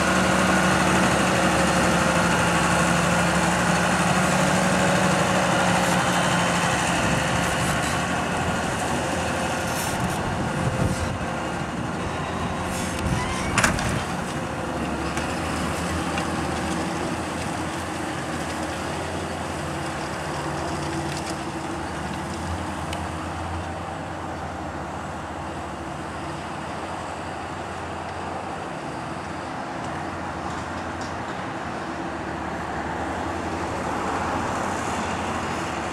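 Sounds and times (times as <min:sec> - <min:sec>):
tractor engine running under load: 0:00.0 - 0:35.9.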